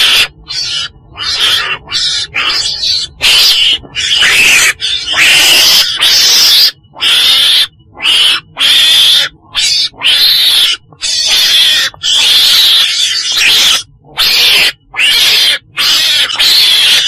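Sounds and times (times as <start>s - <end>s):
weasel screeching calls: 0.0s - 17.0s.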